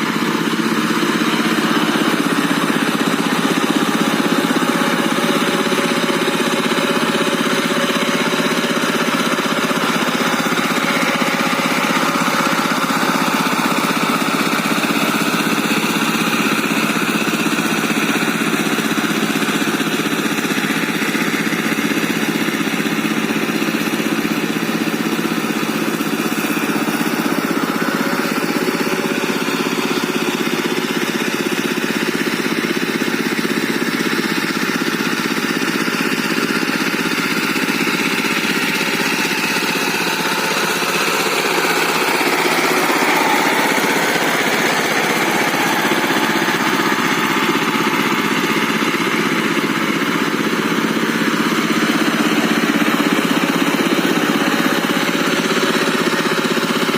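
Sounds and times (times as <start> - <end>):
tiller diesel engine running: 0.0 - 56.9.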